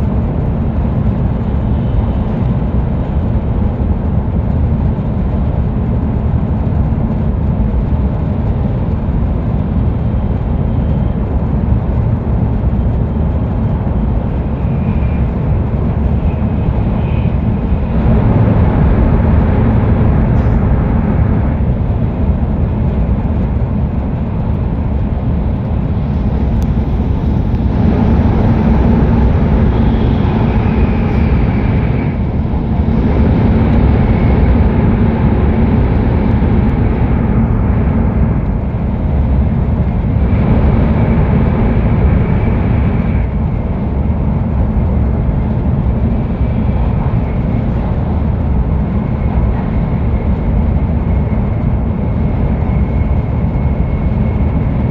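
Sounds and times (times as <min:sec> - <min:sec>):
train running at speed: 0:00.0 - 0:54.9.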